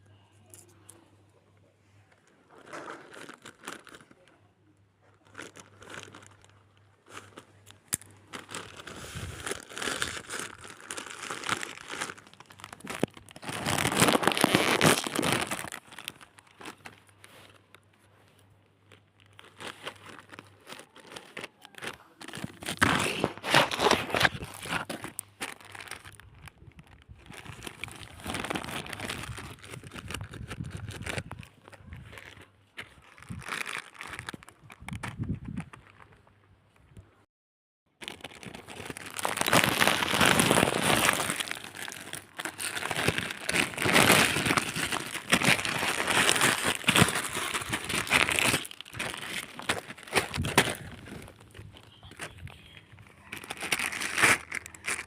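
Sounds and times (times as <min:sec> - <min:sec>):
packaging crinkling: 0:02.5 - 0:04.3, 0:05.2 - 0:18.2, 0:18.8 - 0:36.2, 0:38.0 - 0:55.0.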